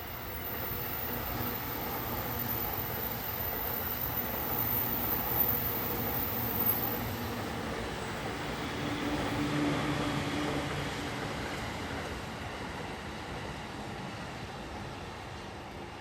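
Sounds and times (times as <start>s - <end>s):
electric train on rails: 0.0s - 16.0s.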